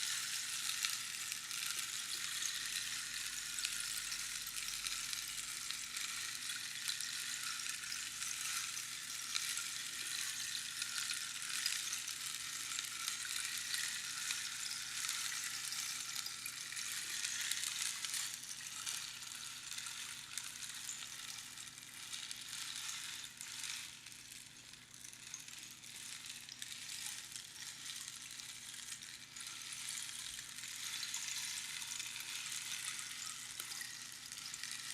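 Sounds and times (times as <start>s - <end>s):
rainstick rattling: 0.0s - 34.9s.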